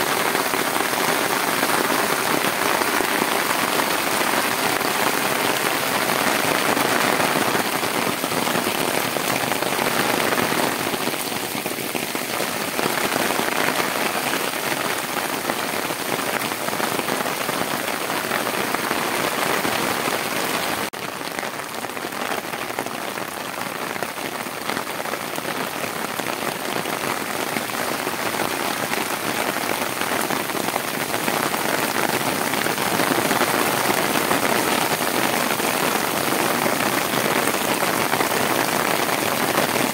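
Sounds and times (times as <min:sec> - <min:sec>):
heavy rain pouring on street: 0:00.0 - 0:39.9.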